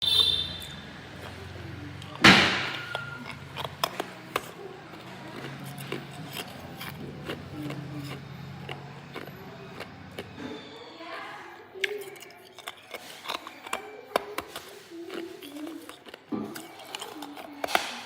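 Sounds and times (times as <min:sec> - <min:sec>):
ice crunching while chewed: 0:00.1 - 0:18.0.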